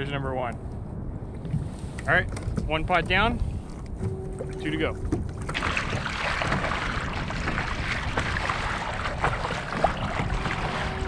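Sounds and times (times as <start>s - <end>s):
wind buffeting microphone: 0.0s - 11.0s
choppy sea water: 1.3s - 11.0s.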